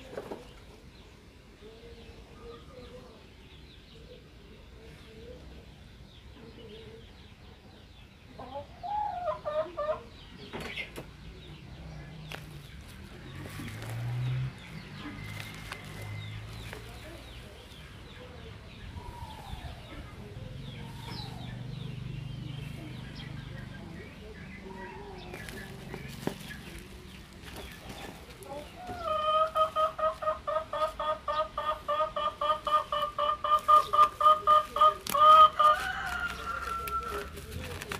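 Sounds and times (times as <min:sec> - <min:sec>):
birds calling: 0:00.0 - 0:37.9.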